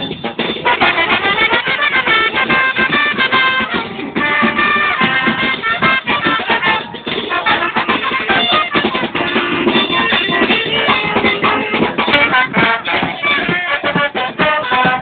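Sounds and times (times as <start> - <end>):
bass drum and snare beat: 0.0 - 15.0
saxophones and trombones playing: 0.0 - 15.0.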